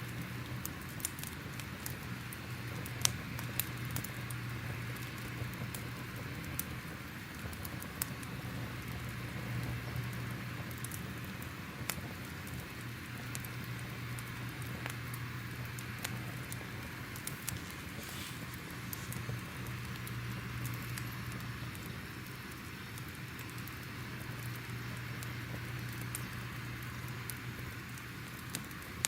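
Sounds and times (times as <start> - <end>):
fire crackling and popping: 0.0 - 29.0
steady fire hiss: 0.0 - 29.0.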